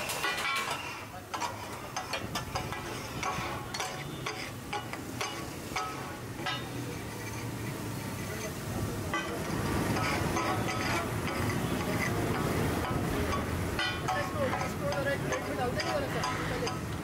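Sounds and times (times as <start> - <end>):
metal spatulas clanking on griddle: 0.0 - 17.0.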